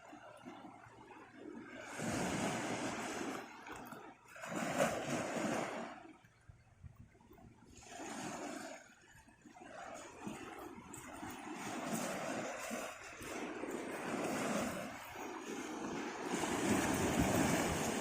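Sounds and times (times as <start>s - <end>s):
surf washing in: 1.6s - 6.2s, 7.7s - 18.0s.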